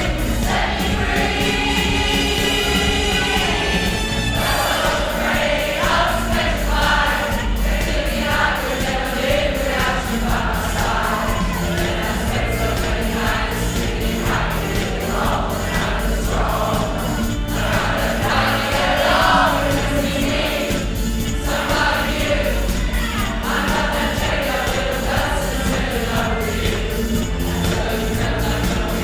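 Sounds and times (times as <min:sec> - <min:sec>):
accompaniment with bass and beat: 0:00.0 - 0:29.0
choir singing: 0:00.0 - 0:29.0.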